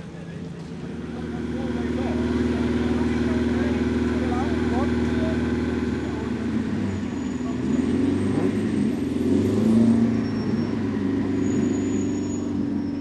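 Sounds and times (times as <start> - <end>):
racing car engine revving: 0.8 - 13.0.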